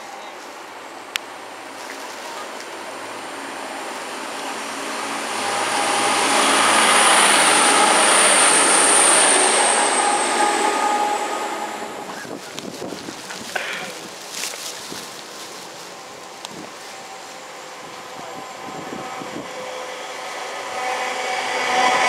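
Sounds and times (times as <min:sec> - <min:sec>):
high steady train whine: 0:00.0 - 0:22.0
train rumble passing: 0:00.0 - 0:22.0.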